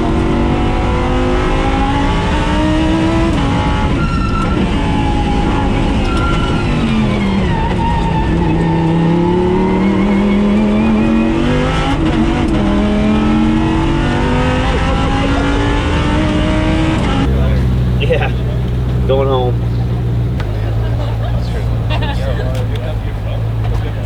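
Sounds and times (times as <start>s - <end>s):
car engine shifting gears: 0.0s - 24.0s.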